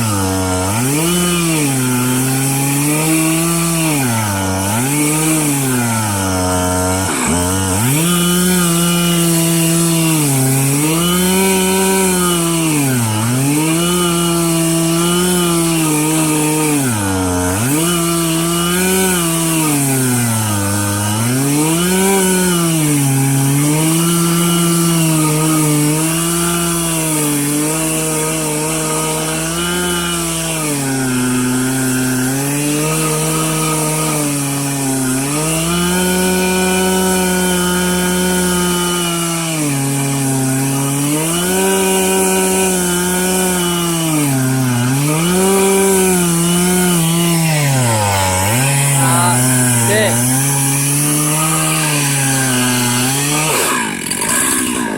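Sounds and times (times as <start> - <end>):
chainsaw cutting log: 0.0 - 54.9.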